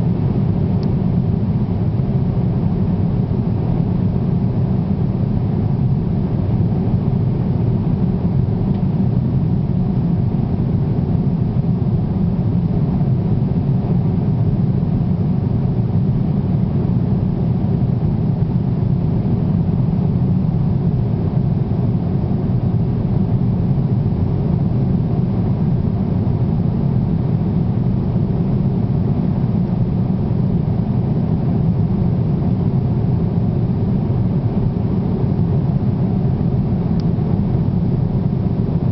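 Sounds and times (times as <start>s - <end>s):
airliner cabin engine drone: 0.0s - 38.9s.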